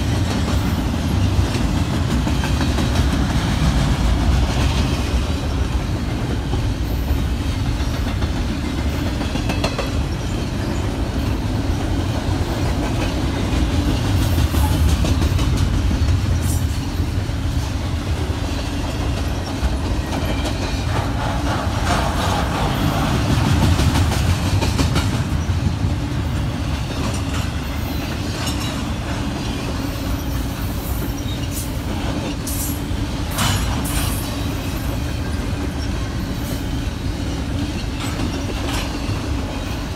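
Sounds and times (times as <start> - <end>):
clickety-clack over rail joints: 0.0 - 39.9
freight train wheels rumbling: 0.0 - 39.9.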